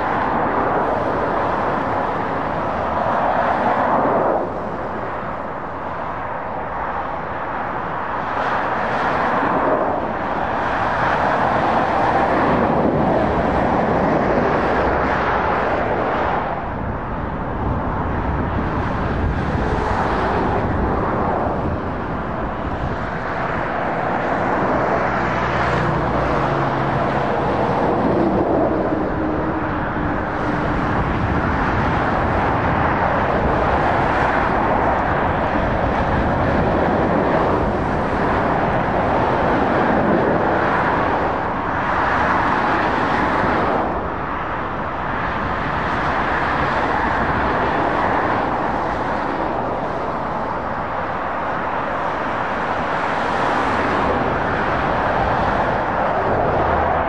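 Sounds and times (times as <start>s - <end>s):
motorway traffic passing at speed: 0.0s - 57.0s.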